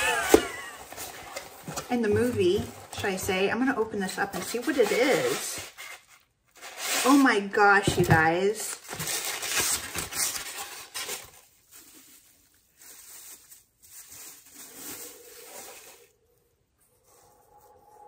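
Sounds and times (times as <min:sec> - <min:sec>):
plastic wrapping rustling: 0:00.0 - 0:16.5.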